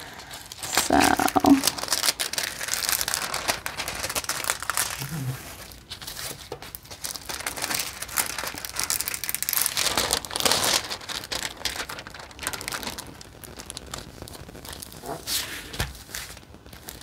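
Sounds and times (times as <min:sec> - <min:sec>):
plastic sheet crinkling: 0:00.0 - 0:17.0.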